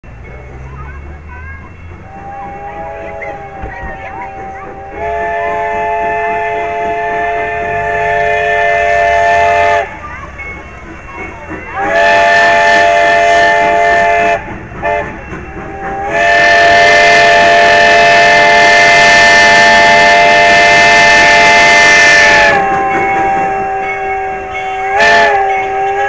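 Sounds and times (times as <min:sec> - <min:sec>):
steam locomotive chime whistle: 0:00.1 - 0:26.0.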